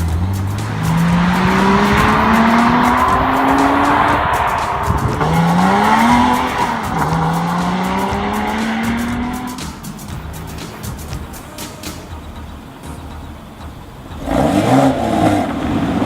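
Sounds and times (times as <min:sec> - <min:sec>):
car engine accelerating hard: 0:00.0 - 0:10.6, 0:12.5 - 0:16.0.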